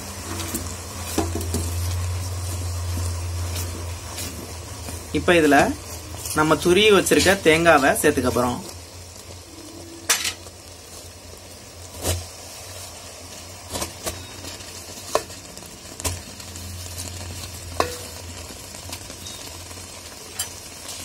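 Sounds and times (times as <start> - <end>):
syrup bubbling in a pan: 0.0 - 21.0.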